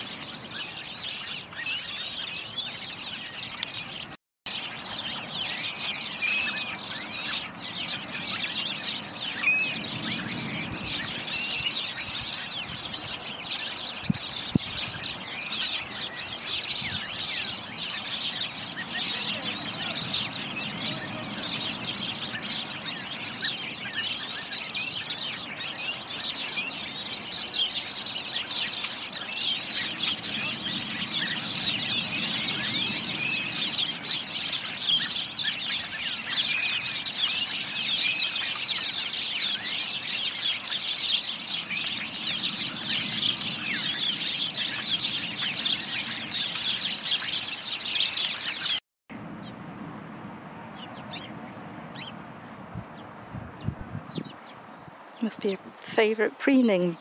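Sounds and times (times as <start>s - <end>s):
songbirds chirping in chorus: 0.0s - 57.0s.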